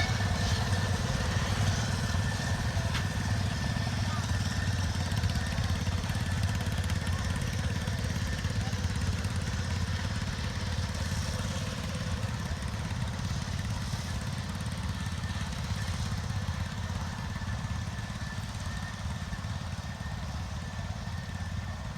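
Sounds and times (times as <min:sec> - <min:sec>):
locomotives working hard: 0:00.0 - 0:21.9.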